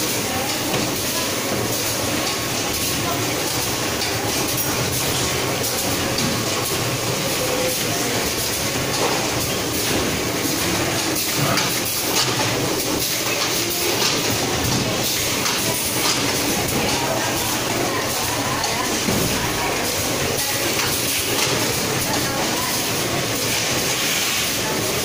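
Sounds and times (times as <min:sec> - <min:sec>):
packaging machines clattering: 0:00.0 - 0:25.0.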